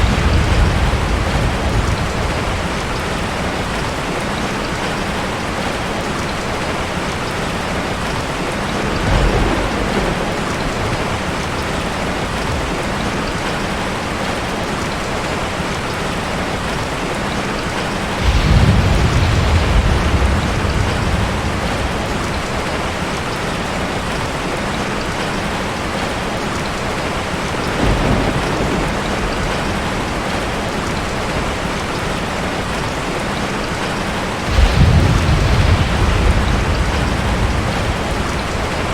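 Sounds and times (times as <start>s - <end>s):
thunder rumbling: 0.0s - 15.5s, 17.3s - 24.4s, 25.2s - 38.9s
steady rain falling: 0.0s - 38.9s.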